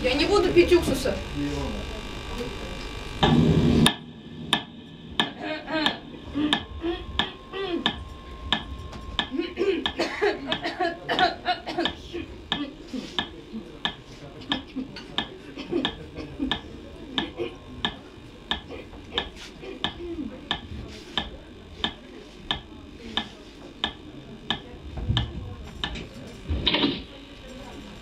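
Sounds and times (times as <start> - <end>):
faint murmuring voices: 0.0 - 28.0
steady sharp ticking: 0.1 - 26.0.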